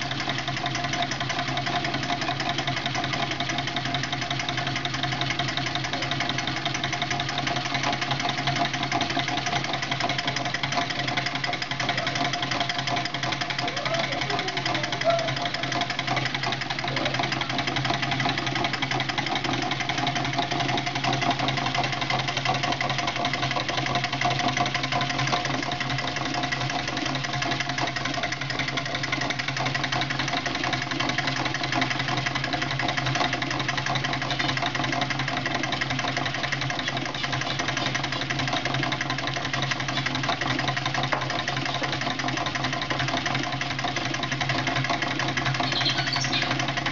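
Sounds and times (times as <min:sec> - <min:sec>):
engine pistons clattering: 0:00.0 - 0:46.9.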